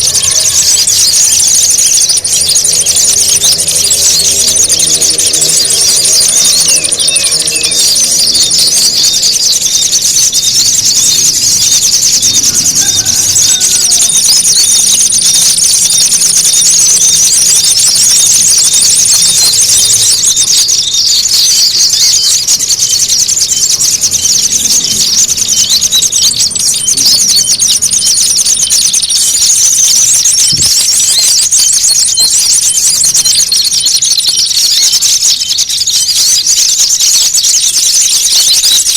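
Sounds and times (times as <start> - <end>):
songbirds twittering: 0.0 - 38.9.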